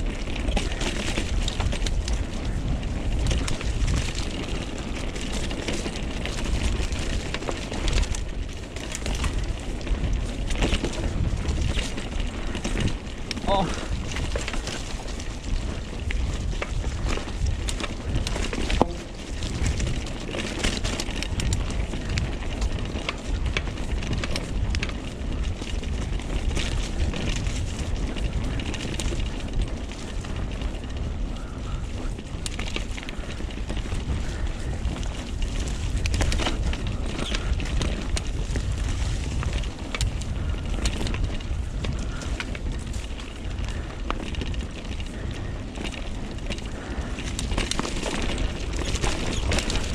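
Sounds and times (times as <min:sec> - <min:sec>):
bike rattling: 0:00.0 - 0:49.9
wind rumble on microphone: 0:00.0 - 0:49.9
tyres over dirt and stones: 0:00.1 - 0:49.9.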